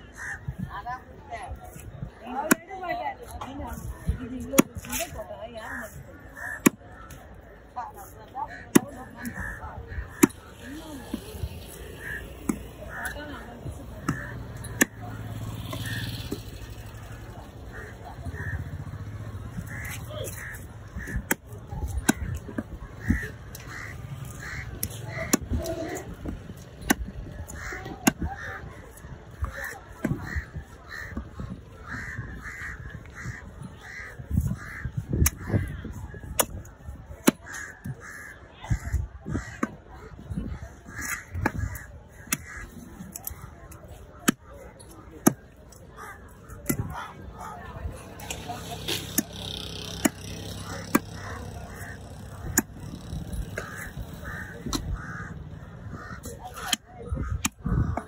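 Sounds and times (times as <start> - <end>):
crows cawing: 0.0 - 0.6, 5.6 - 7.4, 8.4 - 14.9, 16.9 - 26.0, 26.9 - 36.3, 37.3 - 44.6, 45.2 - 58.0.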